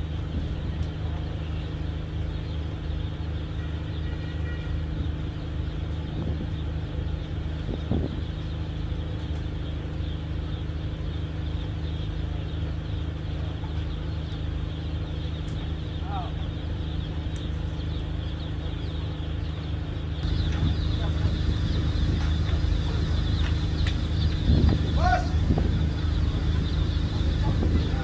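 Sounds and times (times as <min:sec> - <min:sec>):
ship engines idling: 0:00.0 - 0:28.0.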